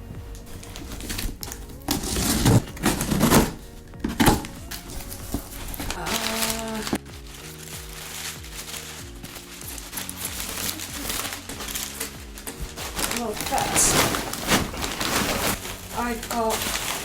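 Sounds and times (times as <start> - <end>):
packaging rustling and clattering: 0.0 - 17.0
soft background music: 0.0 - 17.0.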